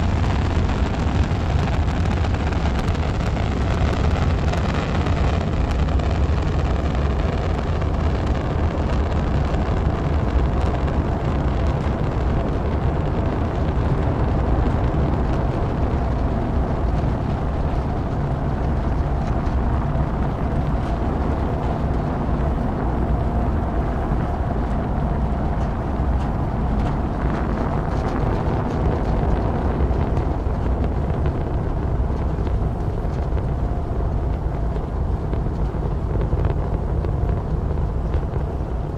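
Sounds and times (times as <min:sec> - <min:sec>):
rocket engines rumbling: 0:00.0 - 0:38.9.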